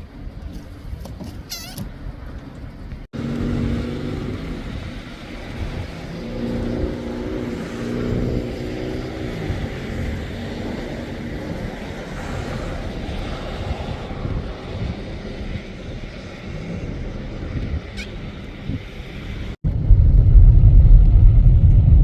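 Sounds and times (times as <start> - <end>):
road rumble: 0.0 - 22.0.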